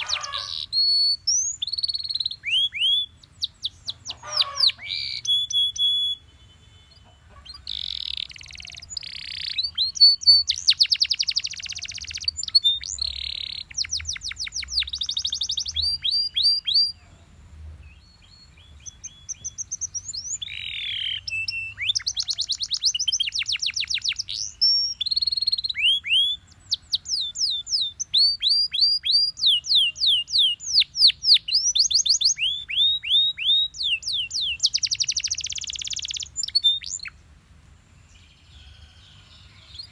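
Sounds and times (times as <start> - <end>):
canary singing trills: 0.0 - 37.2, 38.0 - 39.9.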